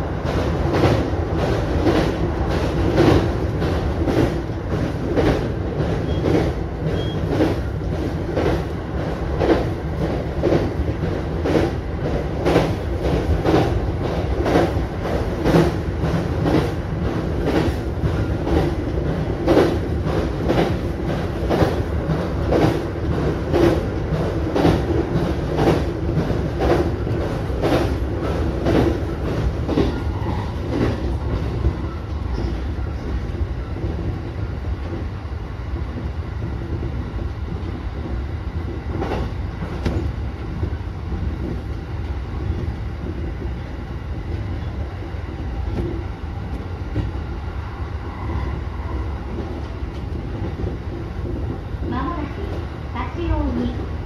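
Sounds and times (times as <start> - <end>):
train low rumble: 0.0 - 54.0.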